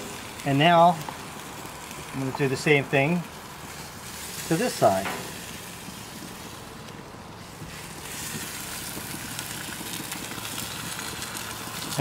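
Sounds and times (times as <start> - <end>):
ribs sizzling on a grill: 0.0 - 12.0.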